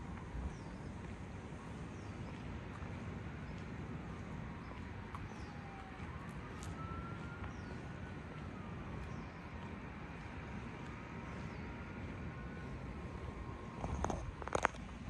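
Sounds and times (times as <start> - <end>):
faint wailing siren: 0.0 - 14.7
low outdoor rumble: 0.0 - 15.0.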